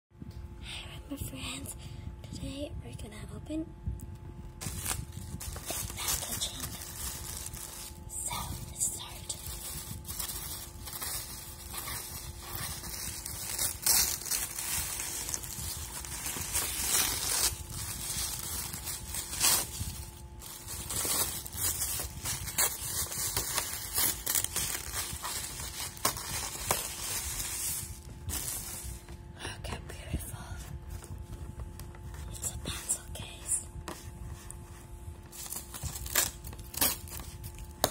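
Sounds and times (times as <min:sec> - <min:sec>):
tissue paper crinkling and tearing: 0:04.6 - 0:29.2, 0:30.9 - 0:37.9.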